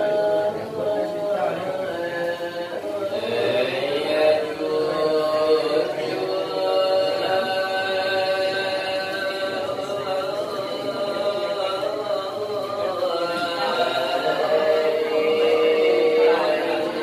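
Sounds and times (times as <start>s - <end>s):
voices chanting: 0.0s - 17.0s.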